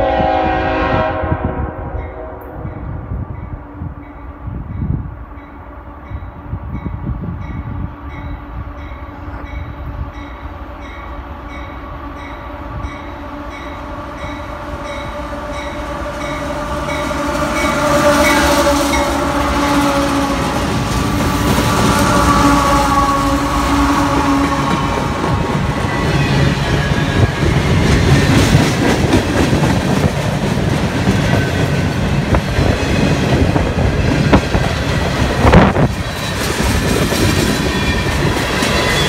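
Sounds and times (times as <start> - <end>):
diesel locomotives passing: 0.0 - 39.0.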